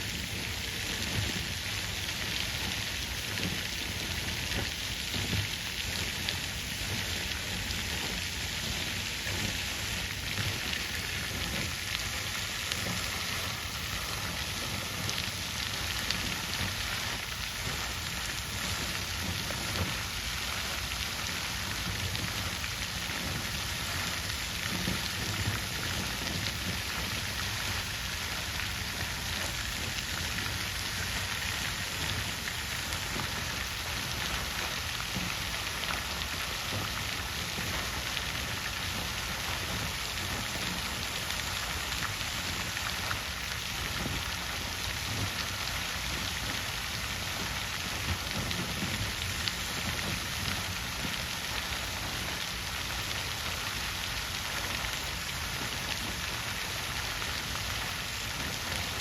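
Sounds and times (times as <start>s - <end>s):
water fountain splashing: 0.0s - 59.0s.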